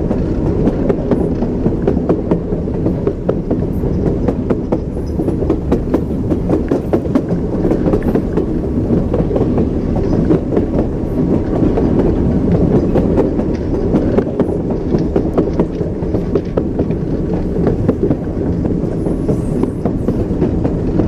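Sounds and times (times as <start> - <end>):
train wheels clacking over rails: 0.0 - 21.0.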